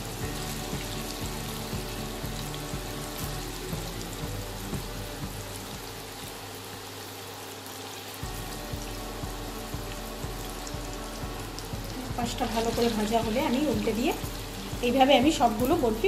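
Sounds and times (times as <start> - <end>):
background music: 0.0 - 6.9, 8.2 - 16.0
frying in hot oil sizzling: 0.0 - 16.0.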